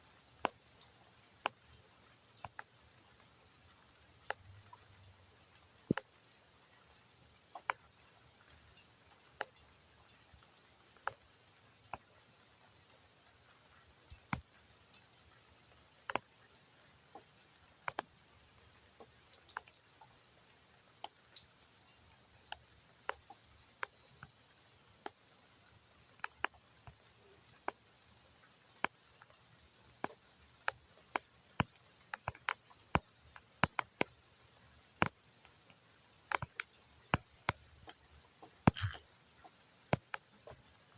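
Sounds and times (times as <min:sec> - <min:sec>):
faint hiss: 0:00.0 - 0:40.9
raindrops ticking on a hard surface: 0:00.0 - 0:40.9.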